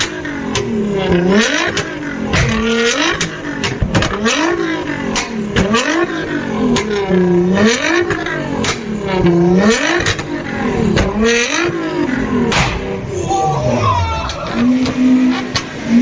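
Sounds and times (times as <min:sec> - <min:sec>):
exhaust cracks: 0:00.0 - 0:16.0
sports car engine revving: 0:00.0 - 0:16.0.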